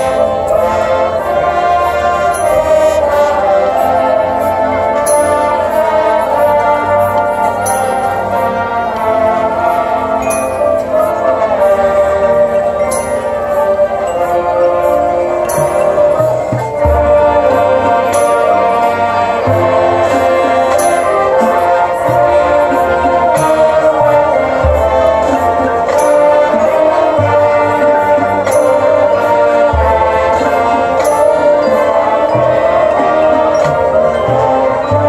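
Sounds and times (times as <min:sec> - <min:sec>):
marching band playing: 0:00.0 - 0:35.0.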